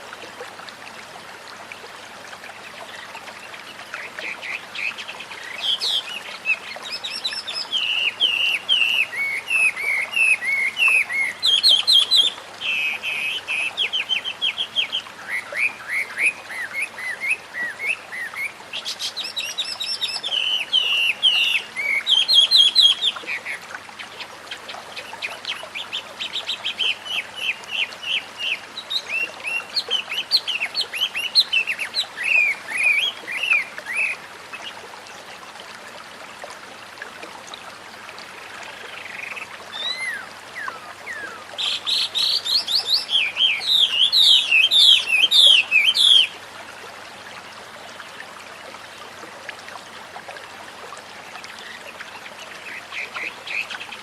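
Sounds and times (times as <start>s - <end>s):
flowing water hiss: 0.0s - 54.0s.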